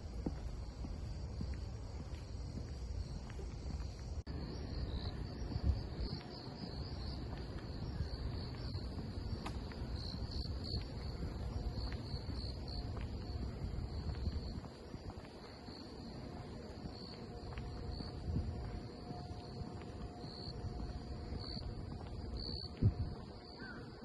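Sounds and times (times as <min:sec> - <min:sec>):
cicadas droning: 0:00.0 - 0:24.0
wind rumble: 0:00.0 - 0:24.0.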